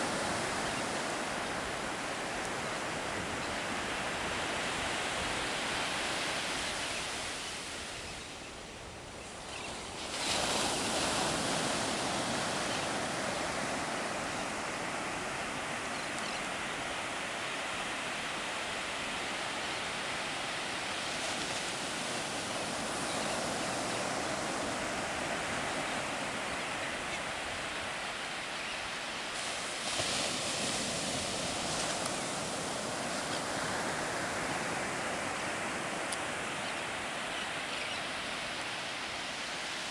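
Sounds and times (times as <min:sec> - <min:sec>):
surf washing up a beach: 0:00.0 - 0:39.9.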